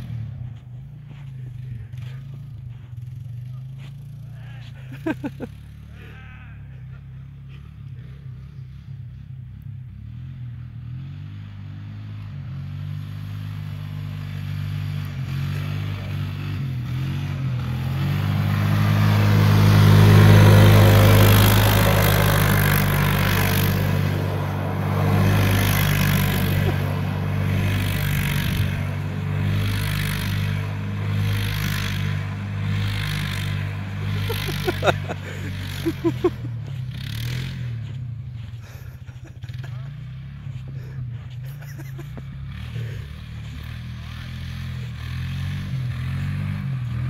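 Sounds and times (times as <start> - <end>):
quad engine revving: 0.0 - 47.0.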